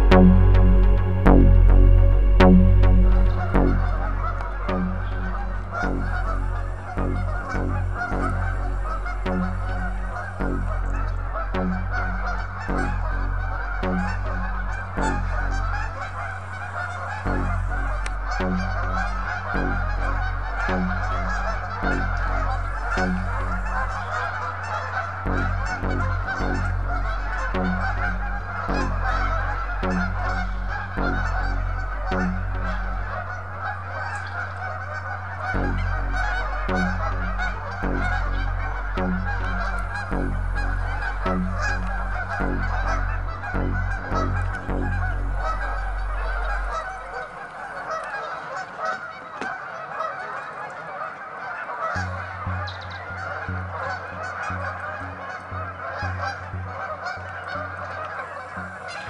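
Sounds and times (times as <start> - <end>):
low rumble: 0.0 - 47.6
geese honking: 0.0 - 59.0.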